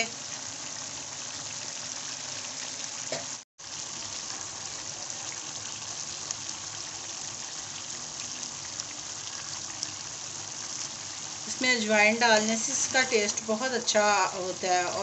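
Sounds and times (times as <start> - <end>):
food sizzling and bubbling in a pan: 0.0 - 15.0.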